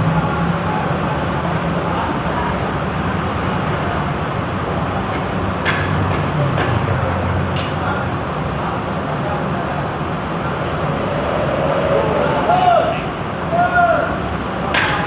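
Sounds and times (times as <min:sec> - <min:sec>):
bus engine running: 0:00.0 - 0:14.7
road traffic: 0:00.0 - 0:15.0.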